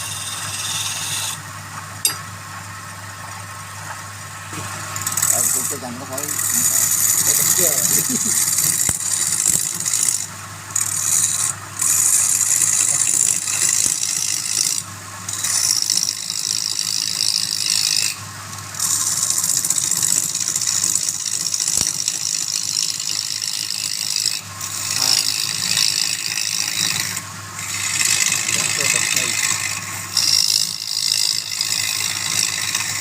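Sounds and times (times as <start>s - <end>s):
lathe motor hum: 0.0s - 1.4s, 3.9s - 33.0s
tool cutting spinning wood: 0.0s - 2.2s, 4.5s - 33.0s.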